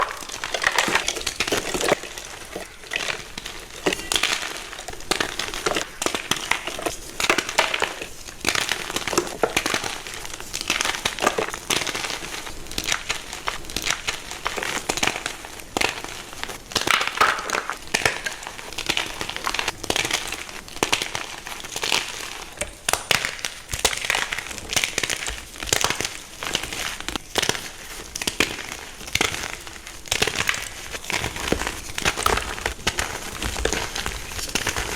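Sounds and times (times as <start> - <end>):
chalk crunching and crackling: 0.0 - 34.9.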